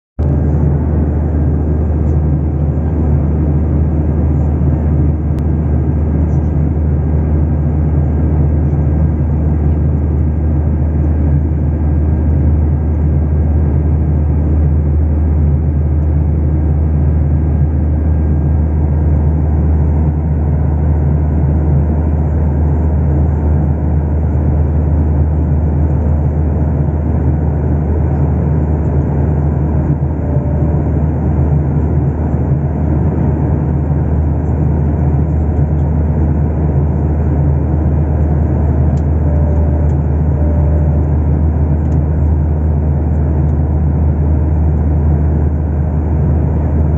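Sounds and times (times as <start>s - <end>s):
airliner cabin engine drone: 0.2s - 46.9s.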